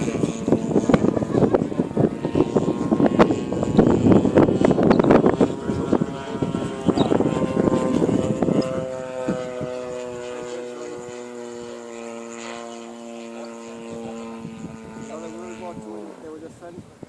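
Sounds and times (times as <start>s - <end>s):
model airplane engine and propeller: 0.0s - 17.0s.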